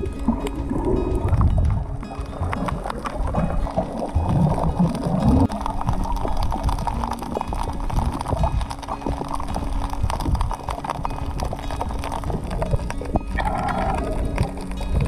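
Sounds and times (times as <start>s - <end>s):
low underwater rumble: 0.0s - 15.0s
underwater clicking and crackling: 0.0s - 15.0s.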